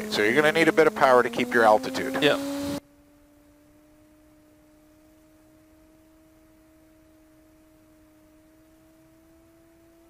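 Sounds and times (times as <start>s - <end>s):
faint two-tone hum: 0.0s - 10.0s.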